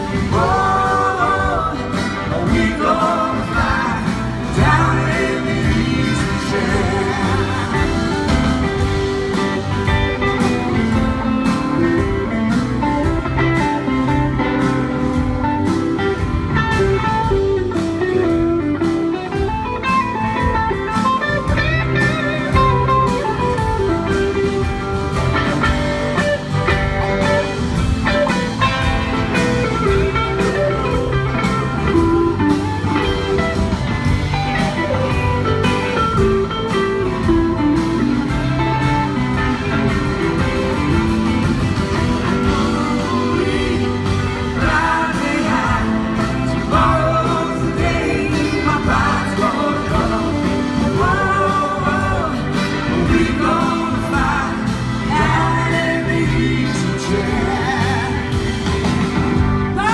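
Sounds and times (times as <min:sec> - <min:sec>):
bass: 0:00.0 - 0:59.9
drums: 0:00.0 - 0:59.9
guitar melodic lines: 0:00.0 - 0:59.9.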